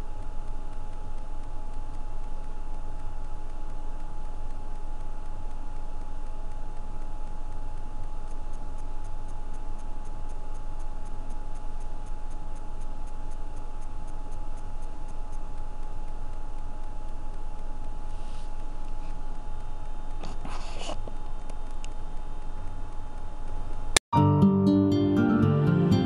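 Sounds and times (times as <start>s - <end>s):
light regular ticks: 0.0s - 24.0s
steady hiss with hum: 0.0s - 24.0s.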